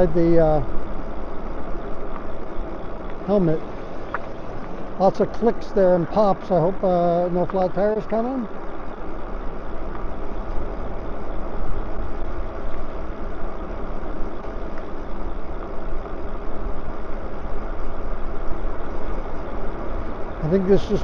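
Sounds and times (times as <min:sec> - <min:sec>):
tyre noise on asphalt: 0:00.0 - 0:21.0
wind rumbling on microphone: 0:00.0 - 0:21.0.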